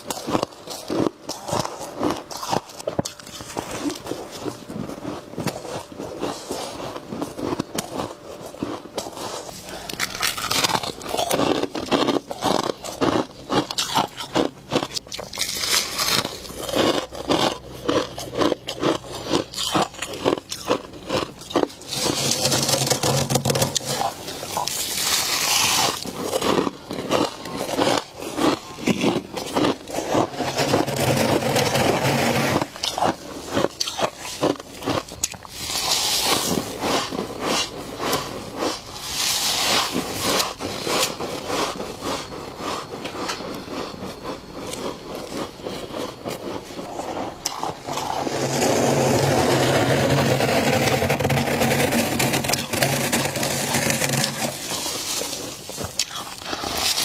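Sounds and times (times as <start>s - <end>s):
frost being scraped: 0.0s - 57.0s.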